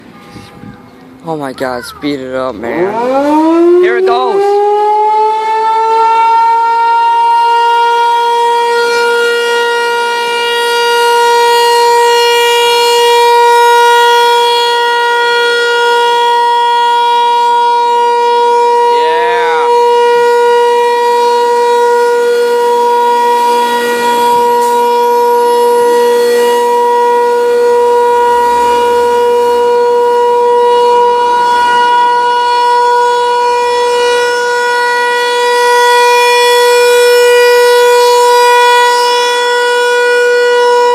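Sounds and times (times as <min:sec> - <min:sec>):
tornado siren wailing: 0:00.0 - 0:40.9.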